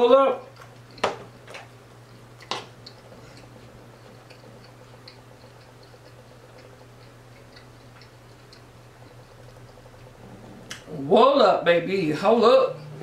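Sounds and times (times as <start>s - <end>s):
toppings ticking and crackling: 0.0s - 13.0s
low hum: 0.6s - 13.0s.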